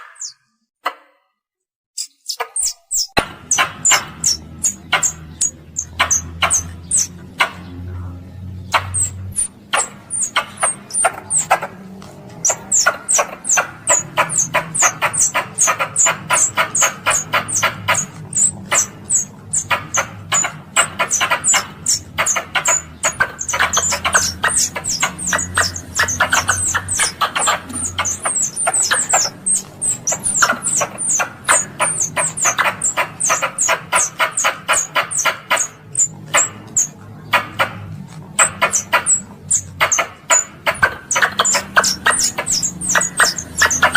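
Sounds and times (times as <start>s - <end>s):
squirrel chirping: 0.0s - 0.4s, 2.0s - 7.9s, 8.5s - 43.9s.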